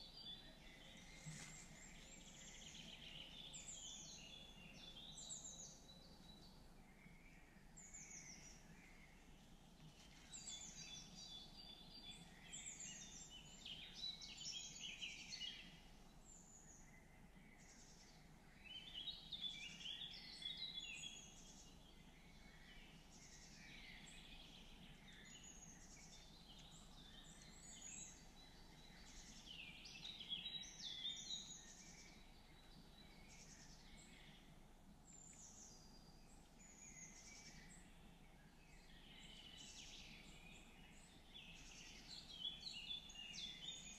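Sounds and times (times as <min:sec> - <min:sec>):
faint steady background noise: 0:00.0 - 0:43.9
songbirds singing: 0:00.0 - 0:43.9.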